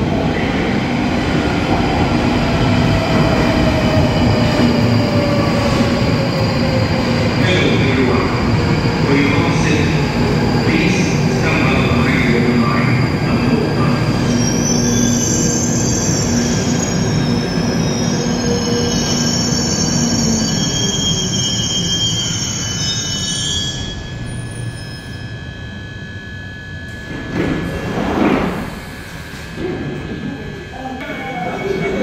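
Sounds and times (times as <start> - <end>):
high wavering wheel squeal: 2.6 - 29.4.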